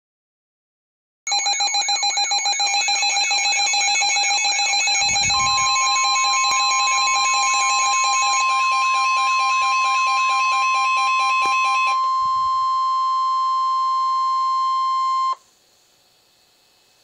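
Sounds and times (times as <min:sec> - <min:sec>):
steady alarm tone: 0:01.3 - 0:15.4
warbling siren alarm: 0:01.3 - 0:15.4.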